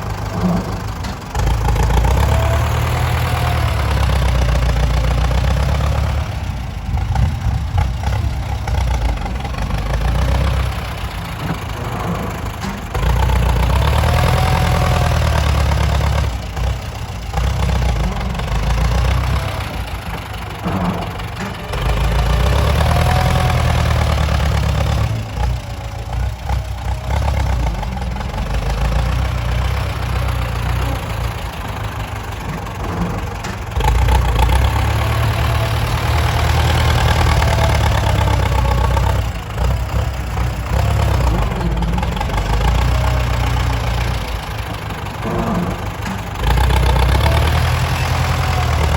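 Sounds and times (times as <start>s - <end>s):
heavy diesel engines: 0.0s - 48.9s.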